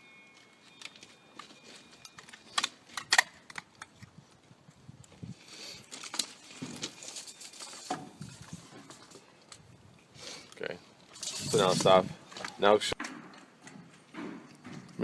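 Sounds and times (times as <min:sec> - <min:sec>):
rustling: 0:00.2 - 0:12.7.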